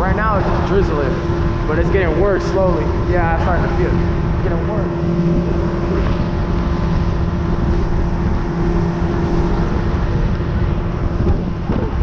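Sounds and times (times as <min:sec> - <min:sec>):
motorboat engine humming: 0:00.0 - 0:12.0
wind and water rumble: 0:00.0 - 0:12.0.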